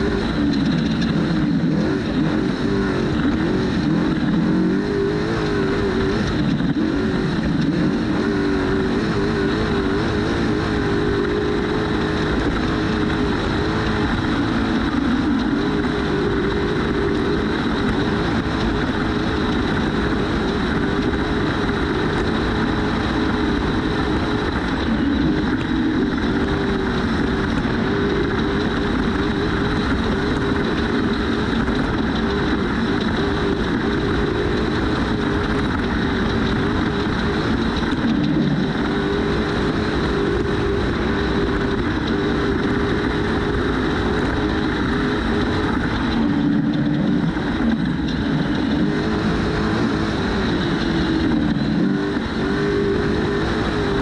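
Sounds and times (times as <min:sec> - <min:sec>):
race engine running hard: 0:00.0 - 0:54.0
road and wind noise: 0:00.0 - 0:54.0.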